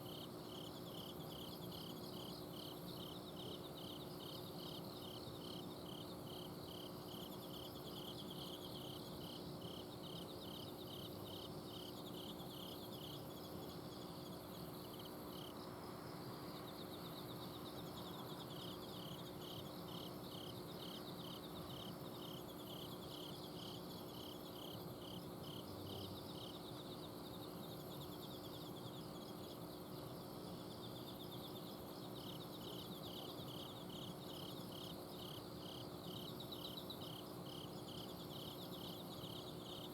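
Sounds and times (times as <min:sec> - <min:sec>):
cricket chirping in pulses: 0:00.0 - 0:39.9
insects trilling: 0:00.0 - 0:39.9.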